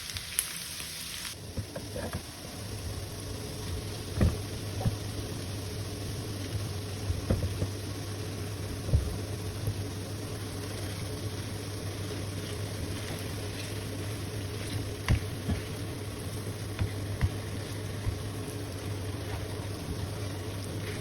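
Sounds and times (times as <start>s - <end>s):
steady low hum: 1.4s - 21.0s.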